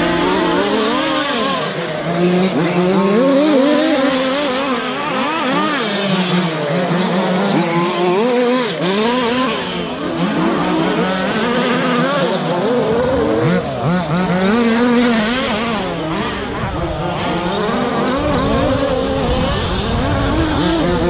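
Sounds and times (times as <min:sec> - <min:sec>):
rc truck motors revving: 0:00.0 - 0:21.0.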